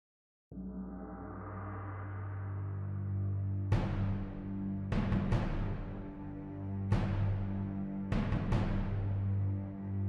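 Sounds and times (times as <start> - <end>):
dramatic background music: 0.6 - 10.0.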